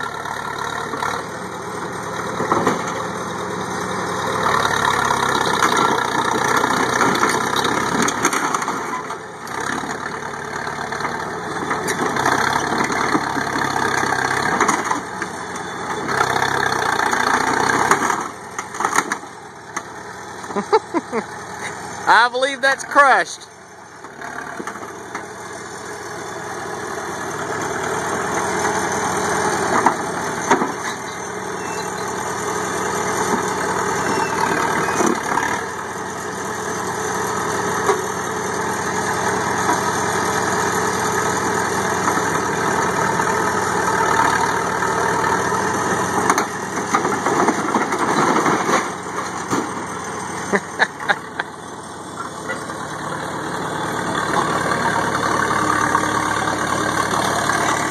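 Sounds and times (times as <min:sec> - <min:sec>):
loader engine running: 0:00.0 - 0:57.9.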